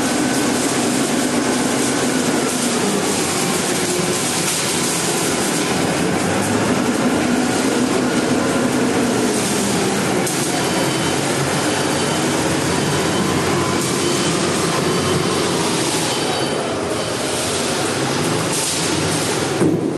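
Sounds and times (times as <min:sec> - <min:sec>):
concrete mixer rumbling: 0:00.0 - 0:19.9.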